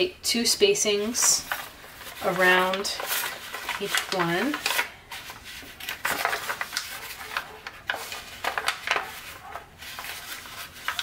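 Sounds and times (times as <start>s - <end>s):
paper crinkling and rustling: 1.0s - 11.0s.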